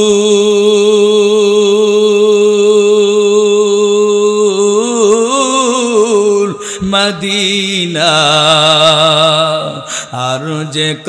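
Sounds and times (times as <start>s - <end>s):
man singing a lament: 0.0s - 11.0s.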